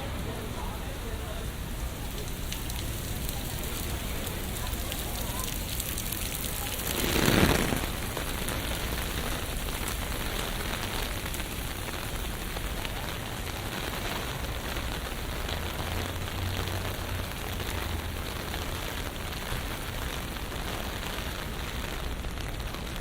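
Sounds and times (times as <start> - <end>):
rain hissing on street: 0.0 - 23.0.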